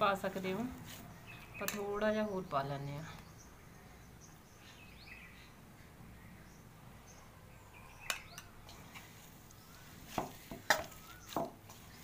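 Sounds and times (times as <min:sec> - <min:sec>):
faint bird chirps: 0:01.0 - 0:12.0.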